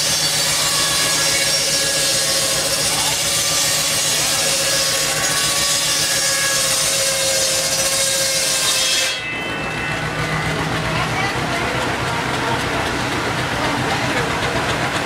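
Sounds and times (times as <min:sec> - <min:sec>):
circular saw cutting wood: 0:00.0 - 0:15.0.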